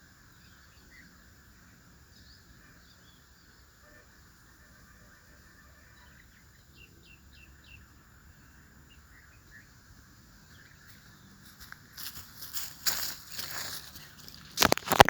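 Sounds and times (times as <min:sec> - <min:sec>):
faint bird chirps: 0:00.0 - 0:12.4
low background hiss: 0:00.0 - 0:14.5.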